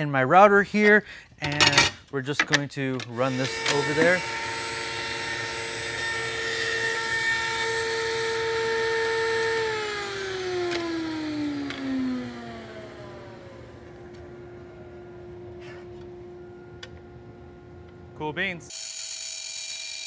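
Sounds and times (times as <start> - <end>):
router whine spinning down: 3.2 - 20.0.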